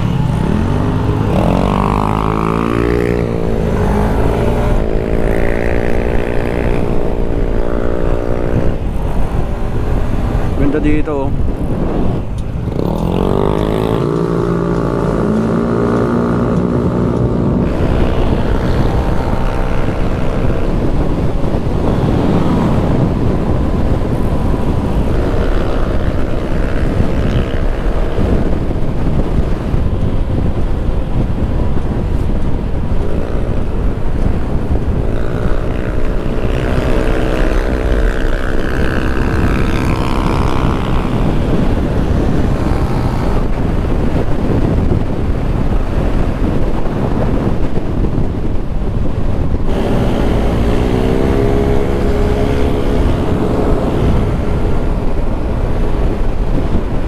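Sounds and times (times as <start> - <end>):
motorcycle engine accelerating: 0.0 - 57.0
wind over microphone: 0.0 - 57.0.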